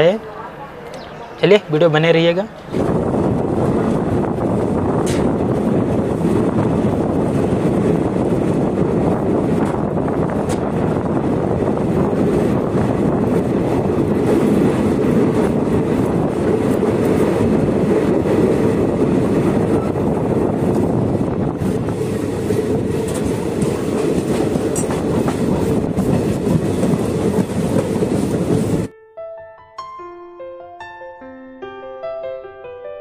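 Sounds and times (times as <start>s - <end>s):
train wheels on rails: 0.4s - 28.9s.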